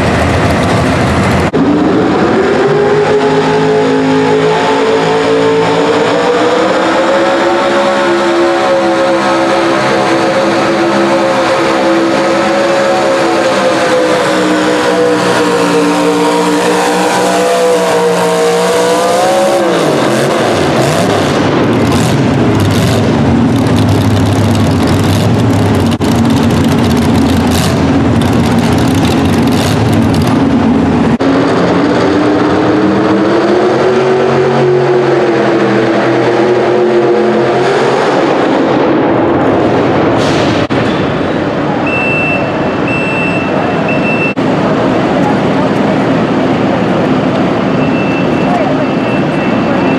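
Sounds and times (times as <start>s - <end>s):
second truck engine revving high: 0.0s - 49.9s
truck engine at full throttle: 0.0s - 49.9s.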